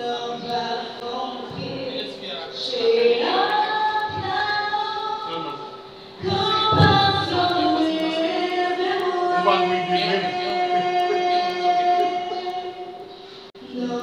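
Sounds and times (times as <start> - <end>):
girl singing into a microphone: 0.0 - 14.0.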